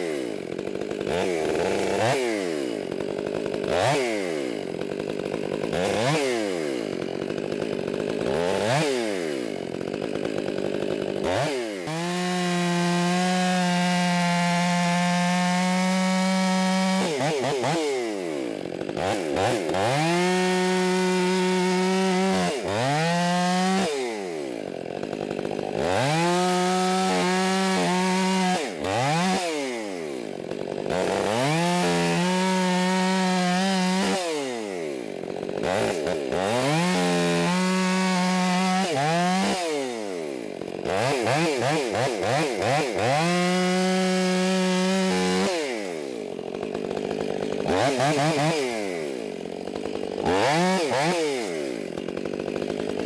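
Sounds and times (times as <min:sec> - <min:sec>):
chainsaw cutting logs: 0:00.0 - 0:53.0.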